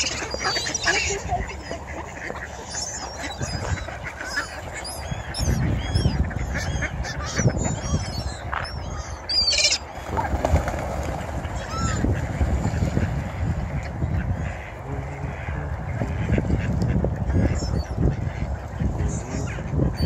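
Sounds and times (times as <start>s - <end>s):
ducks quacking: 0.0s - 20.0s
gulls calling: 0.0s - 20.0s.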